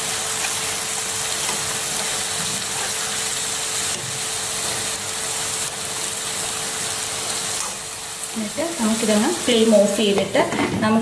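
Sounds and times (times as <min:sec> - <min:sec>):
fish sizzling in a frying pan: 0:00.0 - 0:10.3.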